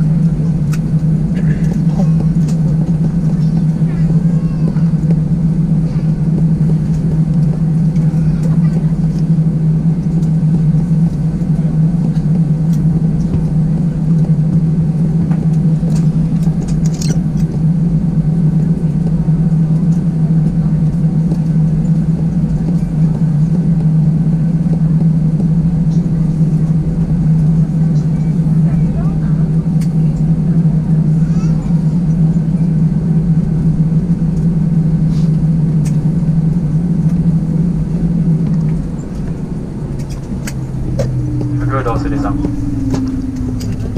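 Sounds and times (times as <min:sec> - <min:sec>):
aircraft cabin hum and rumble: 0:00.0 - 0:43.9.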